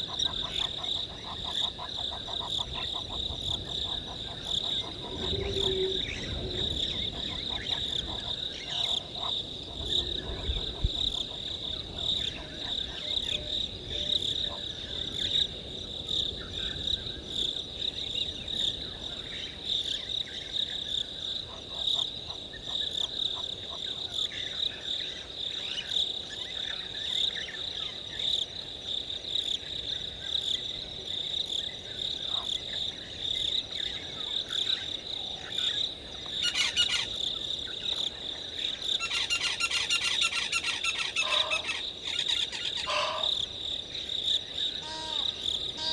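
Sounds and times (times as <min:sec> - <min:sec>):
faint insect calls: 0:00.0 - 0:45.9
insects trilling: 0:00.0 - 0:45.9.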